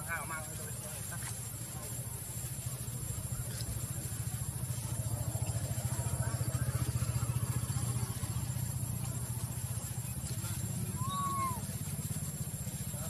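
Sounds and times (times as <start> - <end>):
small engine throbbing: 0.0 - 13.0.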